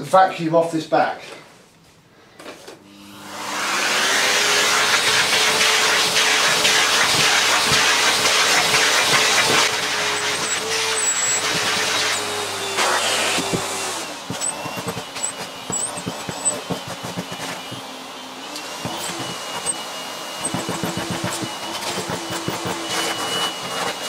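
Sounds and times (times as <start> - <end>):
vacuum cleaner running: 2.6 - 24.0.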